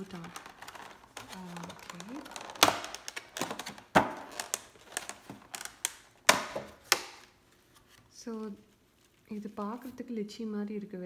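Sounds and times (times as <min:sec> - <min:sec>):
thin plastic crackling: 0:00.0 - 0:10.1.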